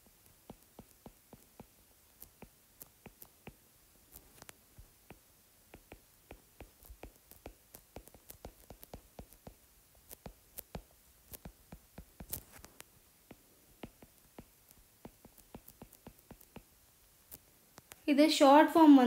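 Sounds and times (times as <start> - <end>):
stylus tapping on tablet screen: 0.0 - 18.0.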